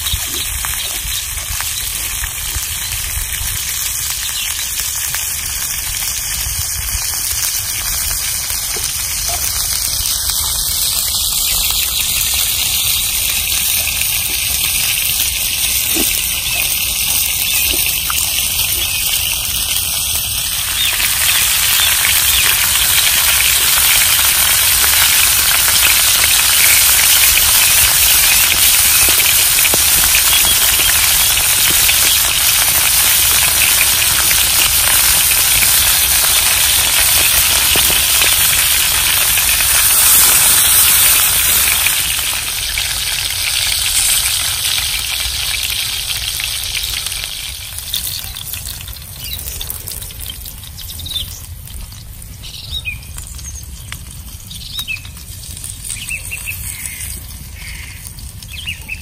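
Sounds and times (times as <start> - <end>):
meat sizzling in oil: 0.0 - 59.0.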